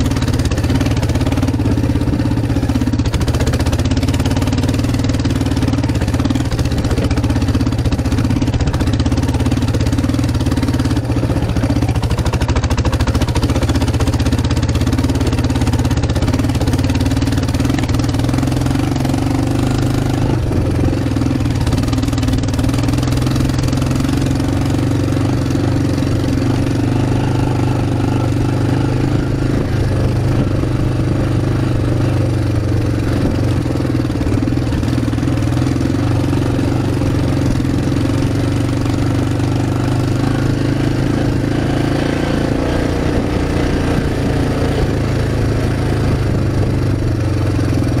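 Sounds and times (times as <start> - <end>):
quad engine running: 0.0 - 48.0.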